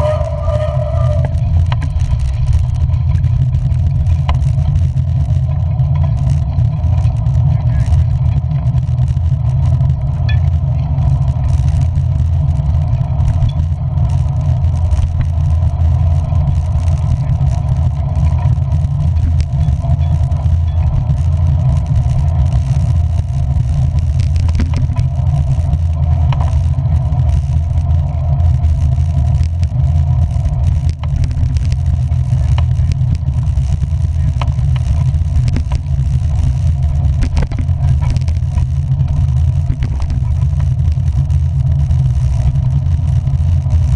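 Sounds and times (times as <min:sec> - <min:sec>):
faint ticks: 0:00.0 - 0:43.9
vehicle on wet road rumbling: 0:00.0 - 0:43.9.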